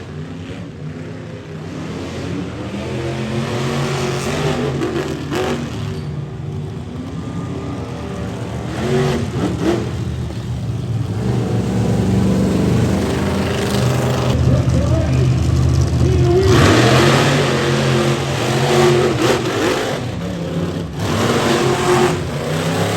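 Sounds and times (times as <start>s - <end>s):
truck engine revving hard: 0.0s - 22.9s.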